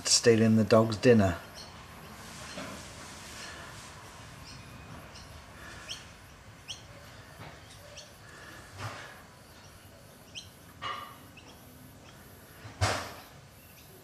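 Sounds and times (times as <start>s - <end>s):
background hiss: 0.0s - 14.0s
birds chirping: 0.0s - 14.0s.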